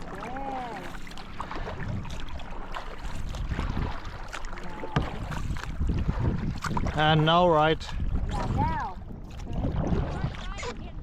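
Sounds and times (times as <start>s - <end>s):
water splashing around kayak: 0.0s - 11.0s
wind rumbling on microphone: 1.5s - 11.0s.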